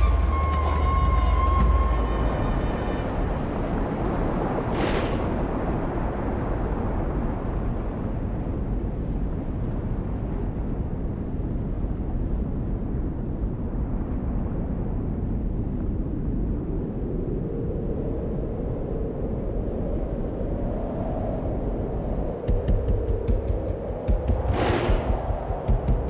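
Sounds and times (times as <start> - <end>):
deep rumbling noise: 0.0 - 17.2, 21.4 - 26.0.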